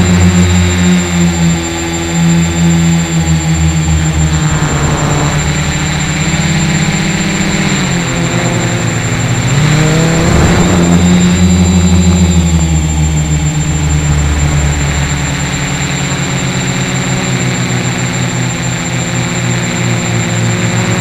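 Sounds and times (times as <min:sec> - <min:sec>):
quadcopter propellers buzzing: 0:00.0 - 0:21.0.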